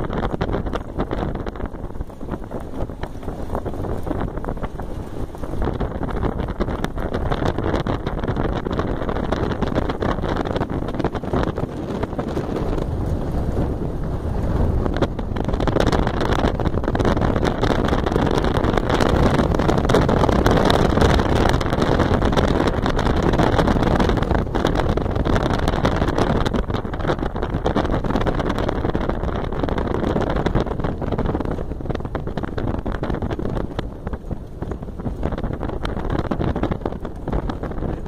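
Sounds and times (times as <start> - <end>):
vehicle engine running: 0.0 - 38.0
wind buffeting microphone: 0.0 - 38.0.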